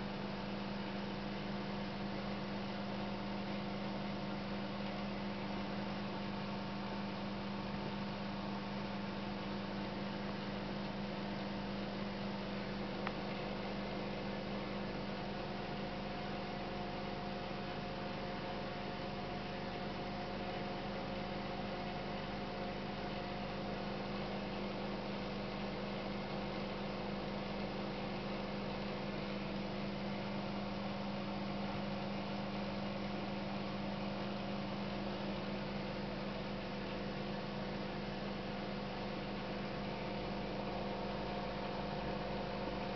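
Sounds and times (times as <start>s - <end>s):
aquarium equipment humming: 0.0s - 42.9s.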